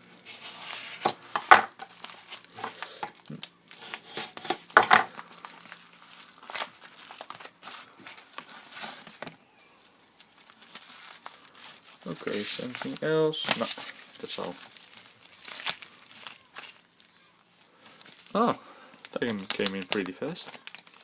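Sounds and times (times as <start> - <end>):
package wrapping crinkling and tearing: 0.0 - 21.0.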